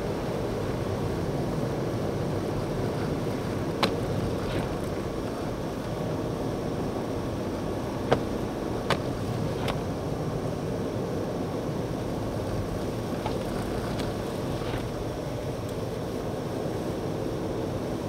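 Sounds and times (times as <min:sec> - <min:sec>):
blizzard wind rushing: 0:00.0 - 0:18.0.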